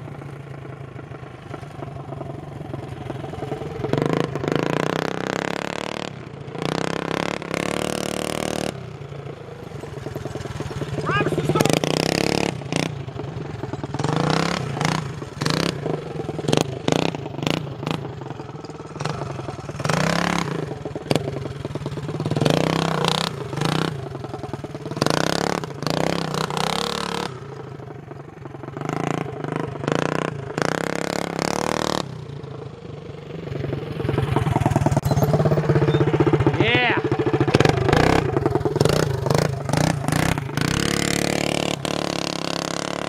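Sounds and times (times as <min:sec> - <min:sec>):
minibike engine revving: 0:00.0 - 0:43.0.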